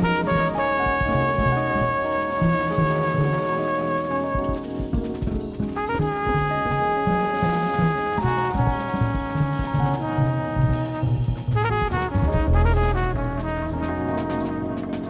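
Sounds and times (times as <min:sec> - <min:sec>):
brass section holding chords: 0:00.0 - 0:15.0
moving bass line: 0:00.0 - 0:15.0.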